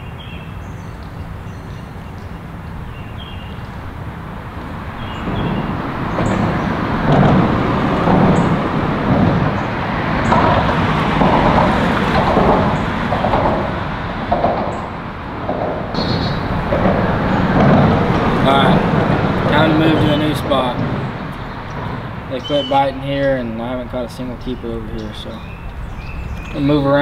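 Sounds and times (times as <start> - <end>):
traffic tyres rumbling: 0.0 - 27.0.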